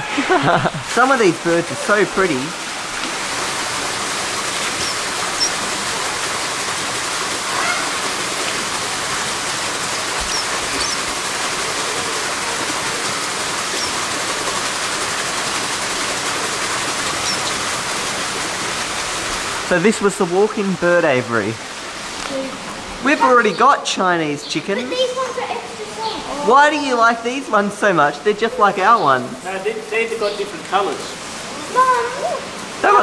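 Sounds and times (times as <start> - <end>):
running water: 0.0 - 33.0.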